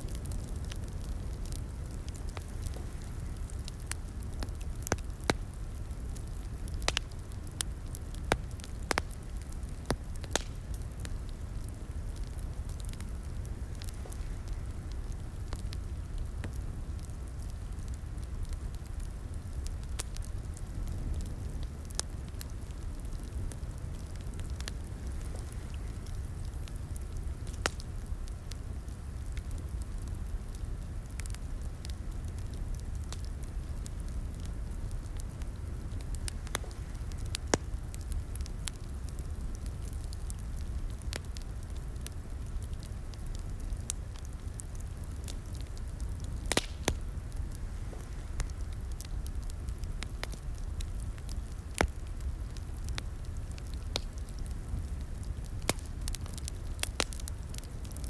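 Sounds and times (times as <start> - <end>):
fire pops and snaps: 0.0 - 58.0
low rumble of flames: 0.0 - 58.0
wood fire crackling: 0.0 - 58.0.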